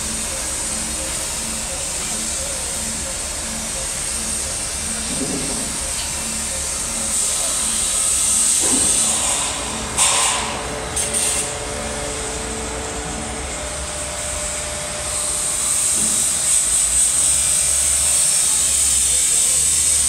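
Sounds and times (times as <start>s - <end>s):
hiss: 0.0s - 11.4s, 15.1s - 20.0s.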